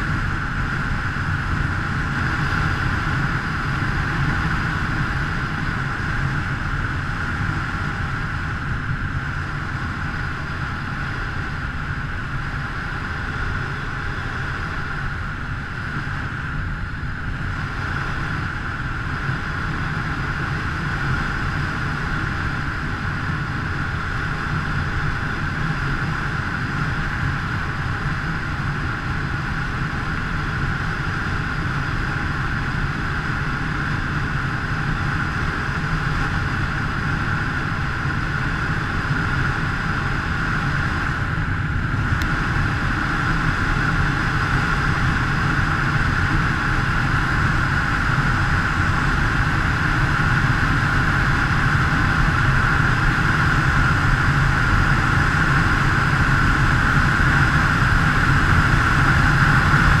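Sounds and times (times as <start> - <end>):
motorcycle engine running: 0.0 - 60.0
wind rush: 0.0 - 60.0.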